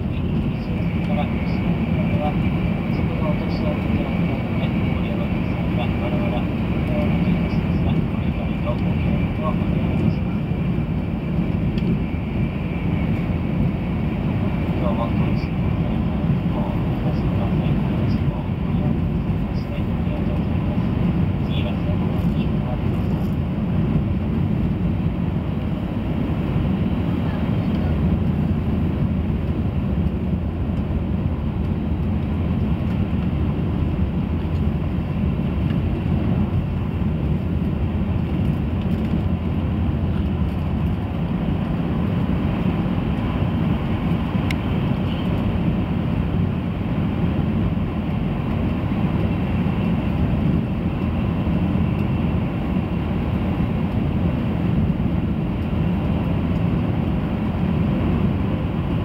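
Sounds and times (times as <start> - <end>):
train running at speed rumble: 0.0 - 59.0.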